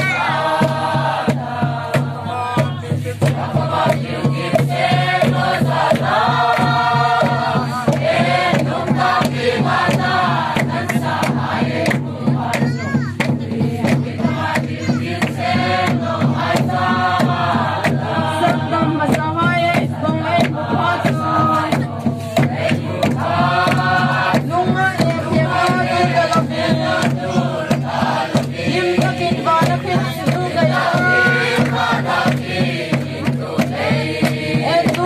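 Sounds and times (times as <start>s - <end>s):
group singing a hymn: 0.0s - 35.0s
large drum beating: 0.0s - 35.0s
hand clapping: 1.9s - 35.0s.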